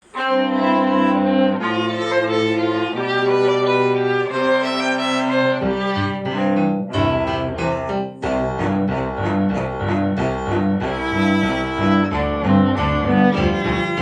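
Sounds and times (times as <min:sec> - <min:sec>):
string trio playing bowed chords: 0:00.0 - 0:14.0
deep bass notes: 0:00.4 - 0:14.0.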